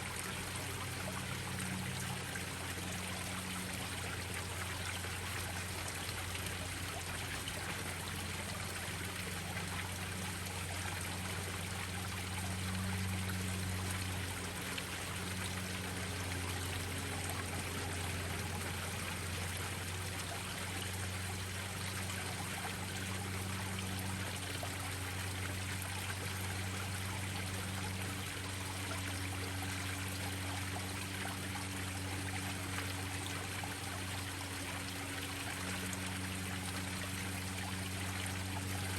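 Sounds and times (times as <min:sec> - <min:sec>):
low steady hum: 0:00.0 - 0:38.9
waterfall splashing and trickling: 0:00.0 - 0:38.9.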